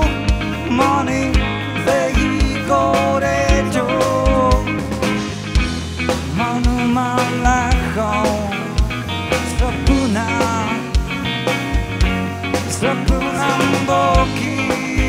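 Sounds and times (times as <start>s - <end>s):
bending melody line: 0.0s - 15.0s
live rock band playing: 0.0s - 15.0s.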